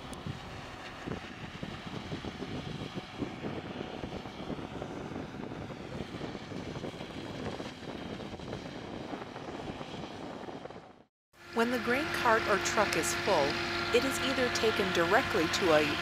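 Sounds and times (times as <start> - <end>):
drone of farm machinery engines: 0.0 - 16.0.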